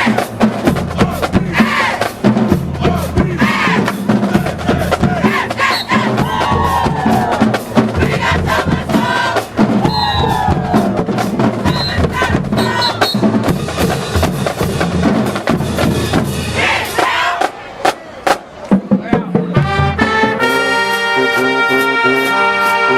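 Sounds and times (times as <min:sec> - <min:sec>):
drumline strikes: 0:00.0 - 0:22.9
marching band playing: 0:00.0 - 0:22.9.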